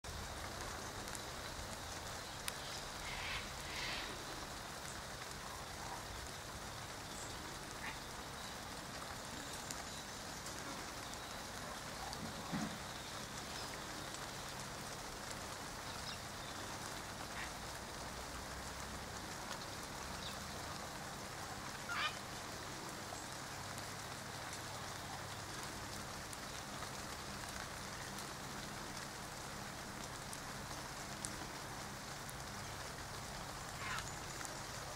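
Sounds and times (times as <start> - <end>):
light rain pattering: 0.0 - 34.9.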